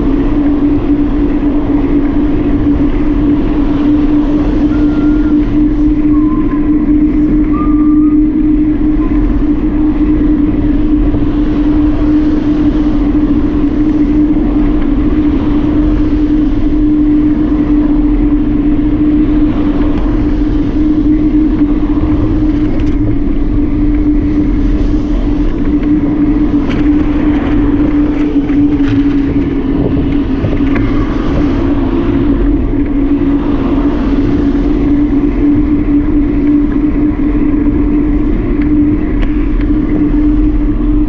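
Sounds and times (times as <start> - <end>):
constant droning hum: 0.0 - 41.0
road noise: 0.0 - 41.0
rushing wind: 0.0 - 41.0.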